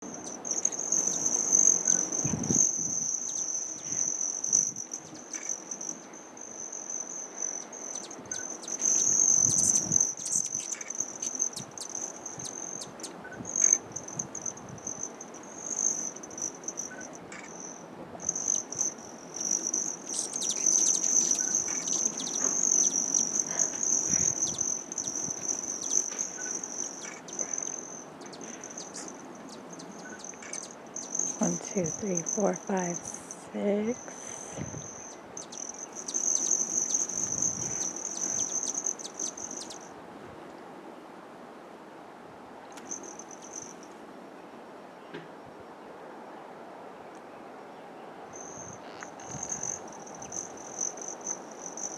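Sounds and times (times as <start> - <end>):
crickets trilling: 0.0 - 40.0, 42.7 - 44.0, 48.2 - 51.9.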